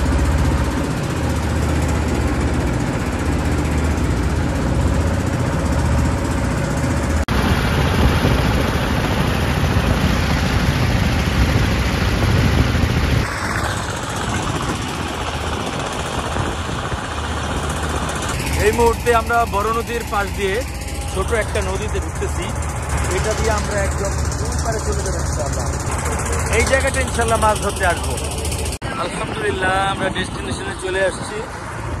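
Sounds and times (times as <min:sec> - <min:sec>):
boat engine running: 0:00.0 - 0:32.0
wind: 0:00.0 - 0:32.0.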